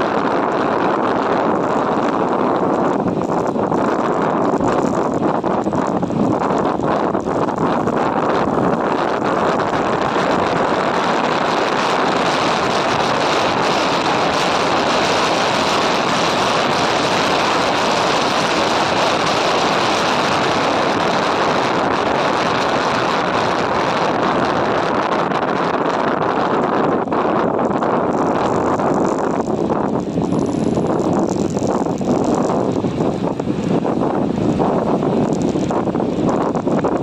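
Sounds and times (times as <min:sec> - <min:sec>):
motorcycle riding: 0:00.0 - 0:37.0
wind rushing on microphone: 0:00.0 - 0:37.0.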